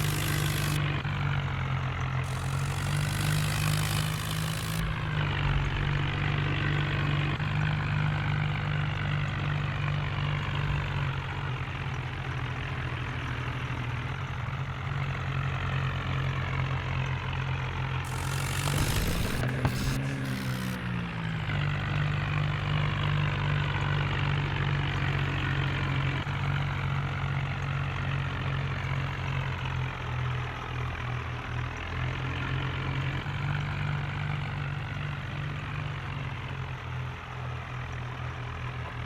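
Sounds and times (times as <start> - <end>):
tractor diesel engine running: 0.0 - 26.2, 33.0 - 39.0.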